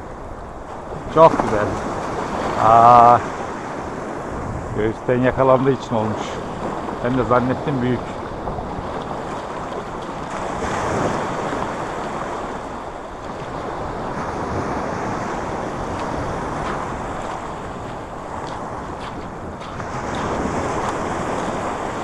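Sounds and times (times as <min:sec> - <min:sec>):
wind buffeting microphone: 0:00.0 - 0:22.0
waves washing on pebbles: 0:00.4 - 0:22.0.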